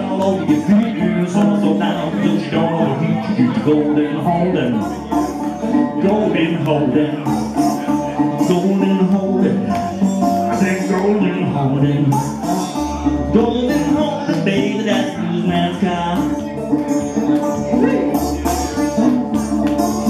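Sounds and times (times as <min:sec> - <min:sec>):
man singing: 0:00.0 - 0:19.3
resonator guitar strumming: 0:00.0 - 0:20.0.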